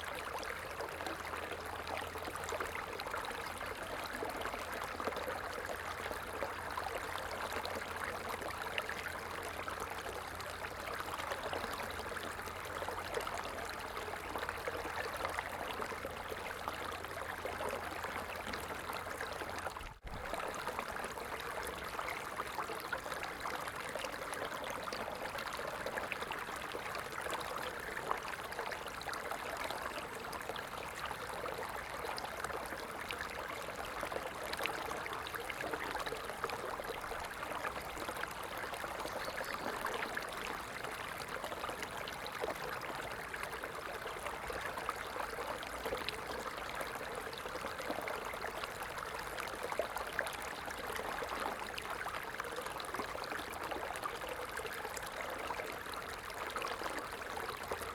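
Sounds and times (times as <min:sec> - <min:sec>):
stream water over stones: 0:00.0 - 0:57.9.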